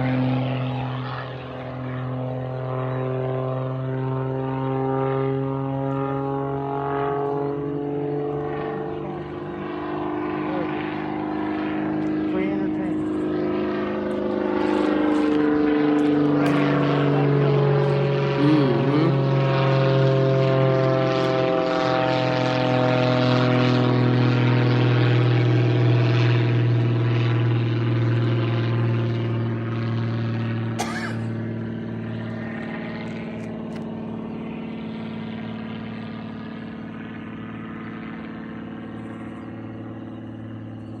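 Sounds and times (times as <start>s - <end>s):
propeller aircraft flying past: 0.0s - 41.0s.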